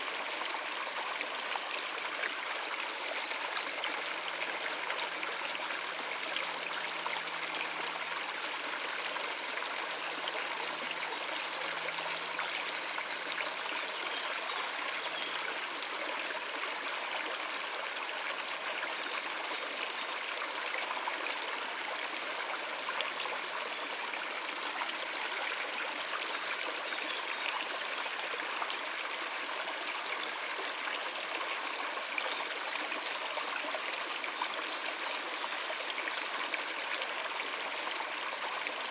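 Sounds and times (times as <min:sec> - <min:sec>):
stream water running over rocks: 0:00.0 - 0:38.9.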